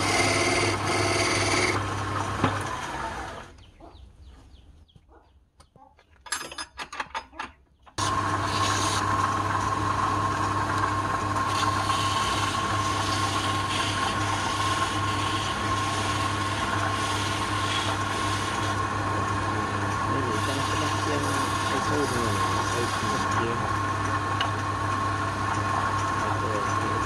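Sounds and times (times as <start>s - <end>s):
wood lathe running: 0.0s - 3.5s, 8.0s - 27.0s.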